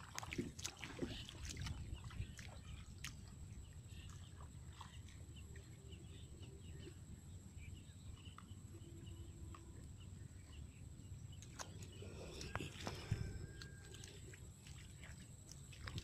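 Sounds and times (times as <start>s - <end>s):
distant birds chirping: 0.3s - 16.0s.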